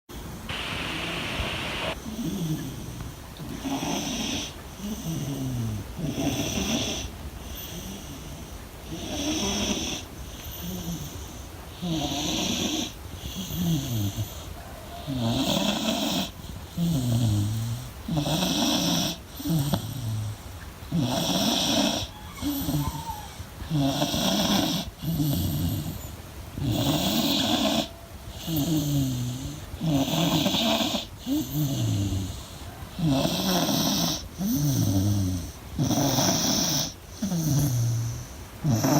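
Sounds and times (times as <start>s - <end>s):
dog snoring: 1.8s - 38.9s.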